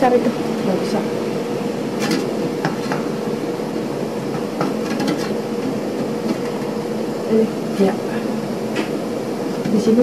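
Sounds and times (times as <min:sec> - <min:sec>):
gas stove burner rushing: 0:00.7 - 0:10.0.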